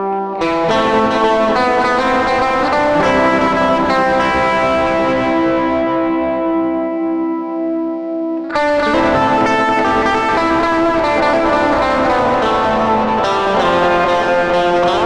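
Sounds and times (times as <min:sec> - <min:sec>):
guitar through effects: 0:00.0 - 0:15.0.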